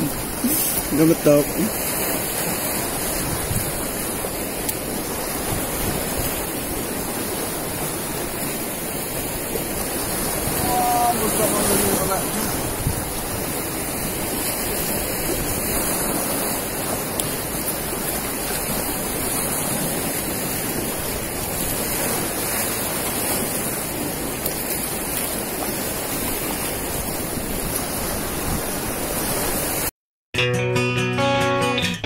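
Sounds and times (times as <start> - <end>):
sea surf washing onto beach: 0.0 - 29.9.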